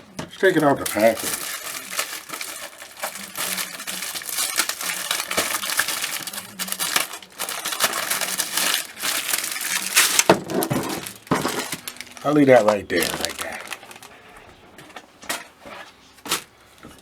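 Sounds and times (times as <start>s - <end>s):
packaging crinkling: 0.1s - 17.0s.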